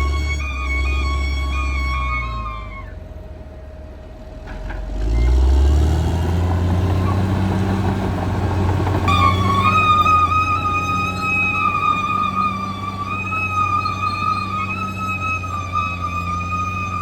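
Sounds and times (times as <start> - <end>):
bowed string melody music: 0.0 - 17.0
bulldozer diesel engine: 0.0 - 17.0.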